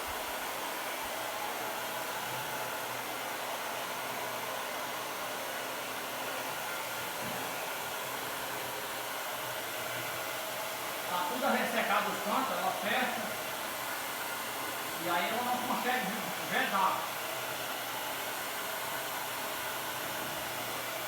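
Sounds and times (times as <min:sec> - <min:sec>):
hair dryer blowing: 0:00.0 - 0:21.0.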